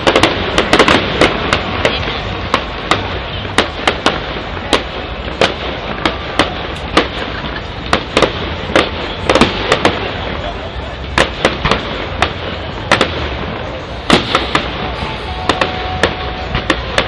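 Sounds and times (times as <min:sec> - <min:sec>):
fireworks bangs: 0:00.0 - 0:17.0
steady background noise: 0:00.0 - 0:17.0.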